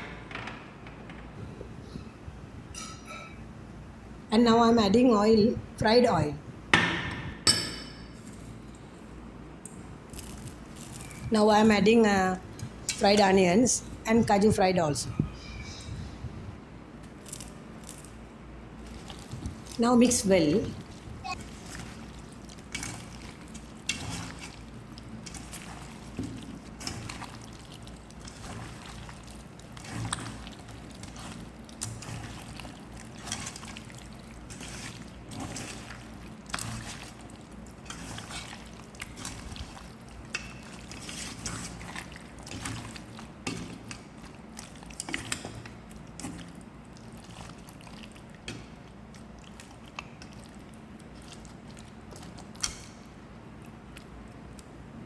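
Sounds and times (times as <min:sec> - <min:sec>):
wet squelches of mixing: 0:08.2 - 0:55.0.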